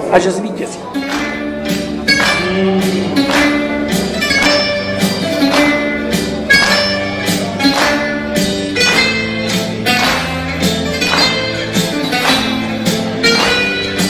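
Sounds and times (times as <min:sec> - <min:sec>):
music with beat and plucked instruments: 0:00.8 - 0:14.0.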